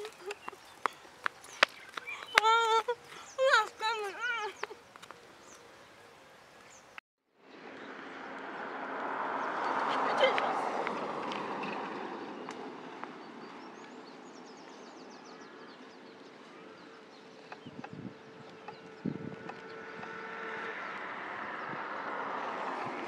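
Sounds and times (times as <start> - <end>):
steady outdoor hiss: 0.0 - 19.1.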